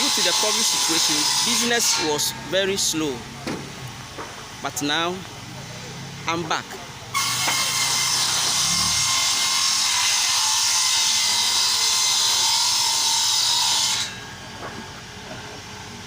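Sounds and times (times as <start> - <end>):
saw cutting timber with whine: 0.0 - 3.3, 6.0 - 16.0.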